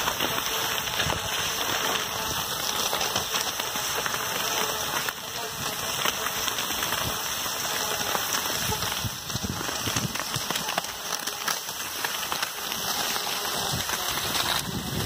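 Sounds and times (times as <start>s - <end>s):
skis sliding over snow: 0.0s - 15.0s.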